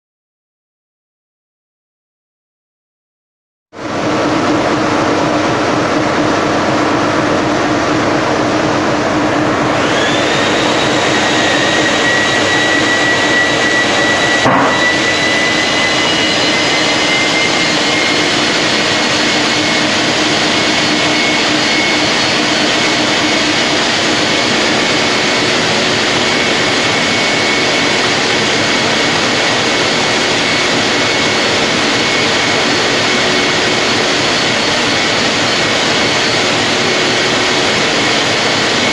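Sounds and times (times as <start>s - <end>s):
high whine rising in pitch: 3.8s - 38.9s
vacuum cleaner running: 3.8s - 38.9s.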